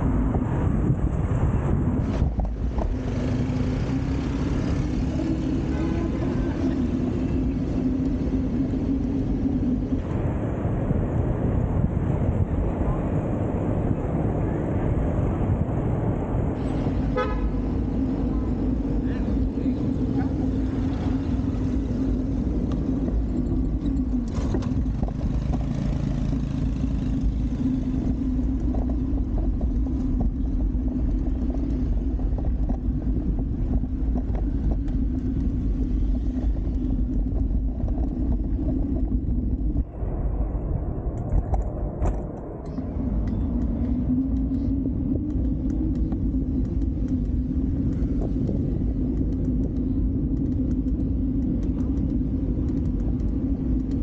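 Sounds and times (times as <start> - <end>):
street traffic: 0.0 - 54.0
wind and road noise rumble: 0.0 - 54.0.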